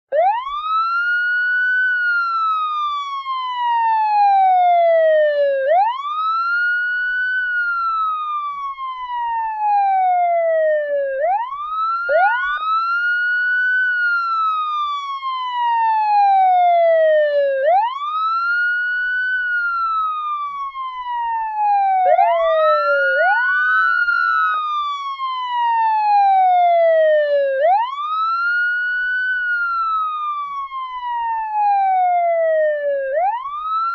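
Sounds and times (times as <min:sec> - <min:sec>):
police siren wailing: 0:00.1 - 0:33.9.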